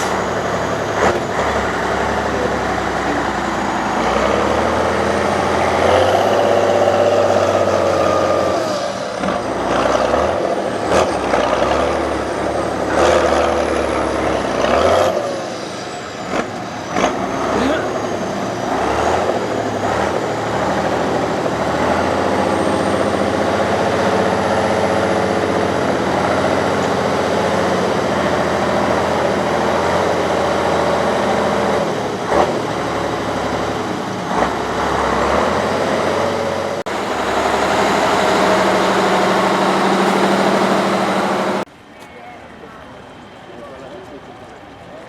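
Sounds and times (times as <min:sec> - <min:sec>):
truck engine running under load: 0:00.0 - 0:45.0.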